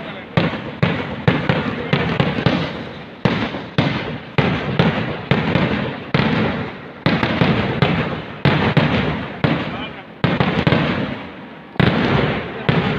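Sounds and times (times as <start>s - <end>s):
fireworks bangs with echo: 0.0s - 12.9s.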